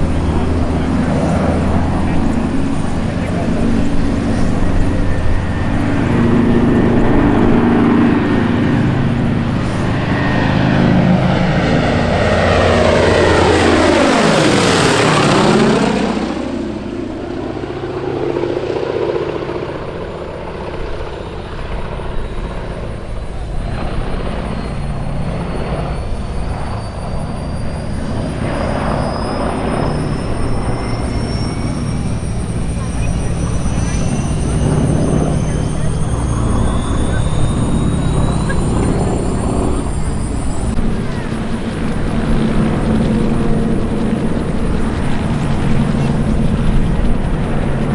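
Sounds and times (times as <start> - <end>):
propeller plane engines droning: 0.0 - 47.9.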